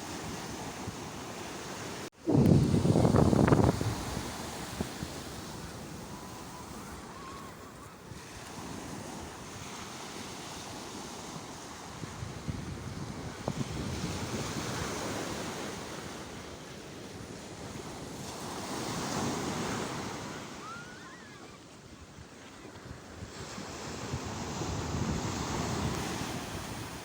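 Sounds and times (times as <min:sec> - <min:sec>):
sea waves washing in: 0:00.0 - 0:21.5, 0:23.3 - 0:27.0
wind on microphone: 0:02.2 - 0:09.8, 0:10.6 - 0:16.5, 0:17.1 - 0:27.0.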